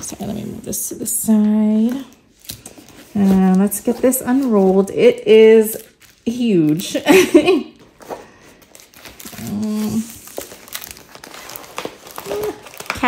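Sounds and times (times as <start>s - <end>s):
canvas and plastic film crinkling: 0.0s - 13.0s.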